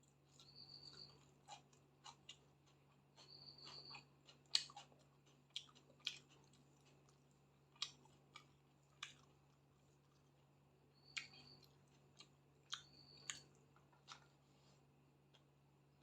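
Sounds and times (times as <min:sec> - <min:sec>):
chewing food: 0:00.0 - 0:15.6.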